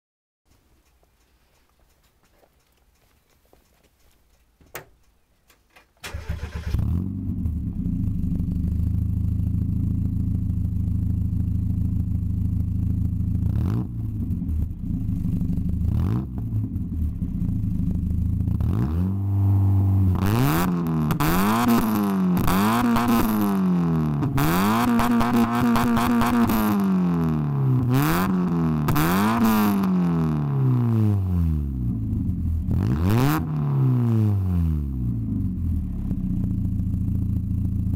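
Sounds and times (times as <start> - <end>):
car engine starting and revving: 6.0 - 37.9.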